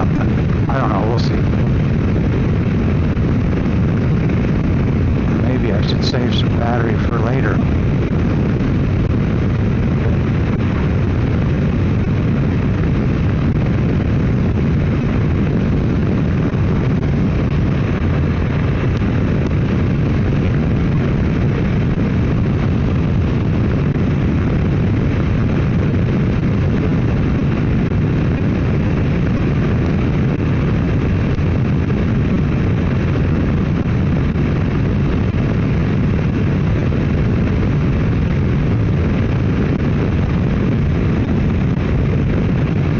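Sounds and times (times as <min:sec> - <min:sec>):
motorcycle engine and road noise: 0:00.0 - 0:42.9.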